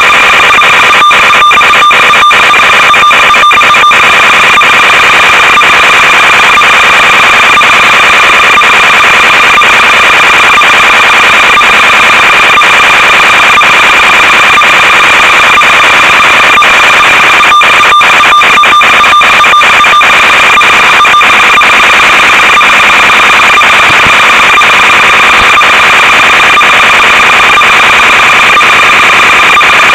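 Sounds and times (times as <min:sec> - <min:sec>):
high whine: 0:00.0 - 0:29.9.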